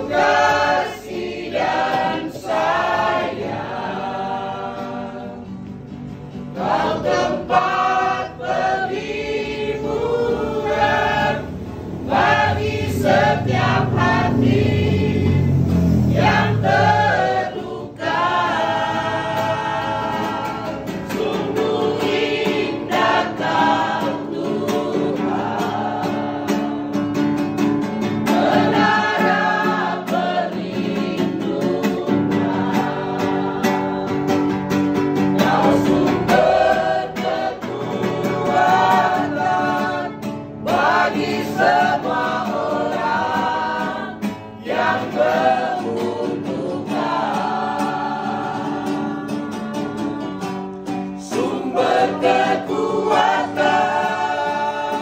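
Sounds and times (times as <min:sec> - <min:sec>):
women singing praise song: 0:00.0 - 0:05.8, 0:06.5 - 0:27.2, 0:28.2 - 0:55.0.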